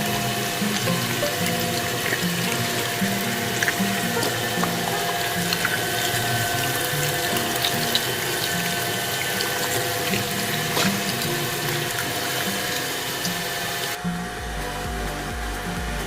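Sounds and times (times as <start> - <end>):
background music with bass: 0.0 - 16.0
electric meat grinder whining: 0.0 - 16.0.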